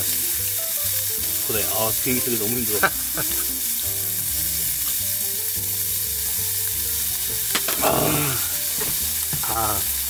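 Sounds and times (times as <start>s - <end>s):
pork sizzling on a grill: 0.0s - 10.0s.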